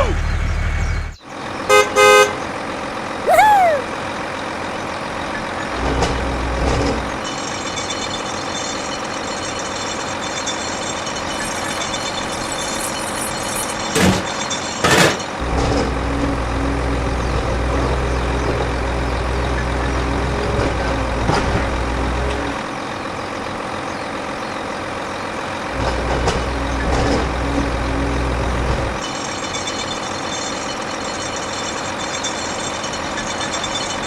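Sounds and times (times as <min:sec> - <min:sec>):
truck engine drone: 0:00.0 - 0:34.0.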